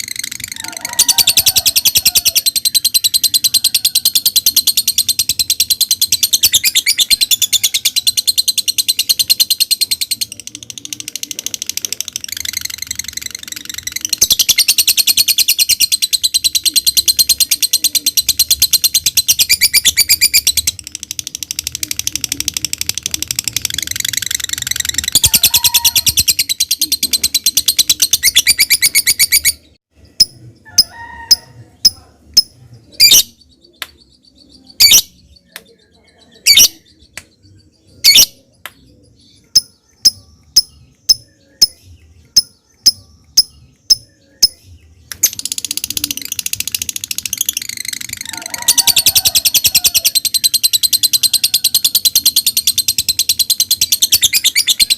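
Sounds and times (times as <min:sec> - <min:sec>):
lovebird chattering trill: 0:00.0 - 0:37.1, 0:39.2 - 0:54.9.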